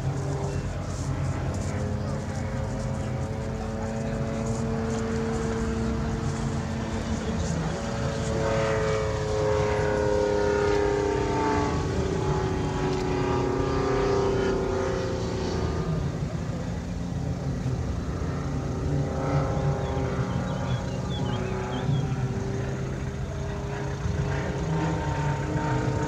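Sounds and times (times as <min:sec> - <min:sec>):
ultralight aircraft engine and propeller: 0:00.0 - 0:26.0.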